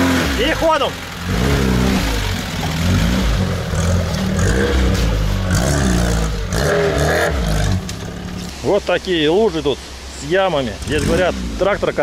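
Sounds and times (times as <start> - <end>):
car engine revving: 0.0 - 8.6, 10.5 - 12.0.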